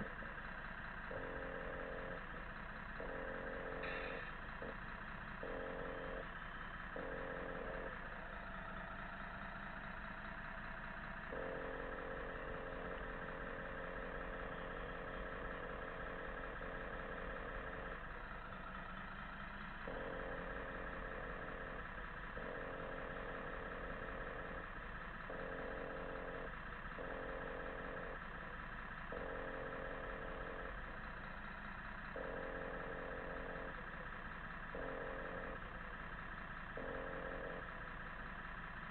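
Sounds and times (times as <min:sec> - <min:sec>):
electronic diesel engine sound: 0:00.0 - 0:38.9.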